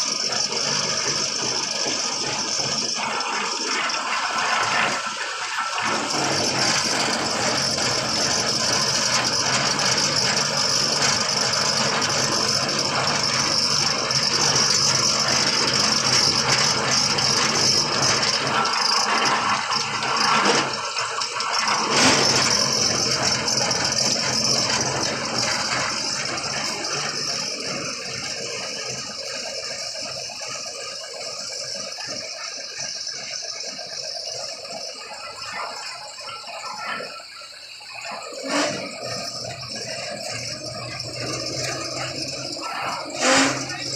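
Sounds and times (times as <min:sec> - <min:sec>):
machinery rattling: 0:00.0 - 0:43.9.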